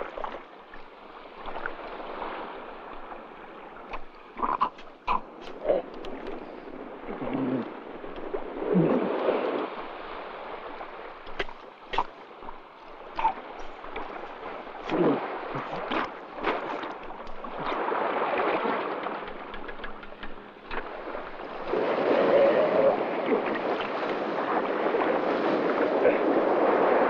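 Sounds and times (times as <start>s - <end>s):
water sloshing and gurgling: 0.0s - 27.0s.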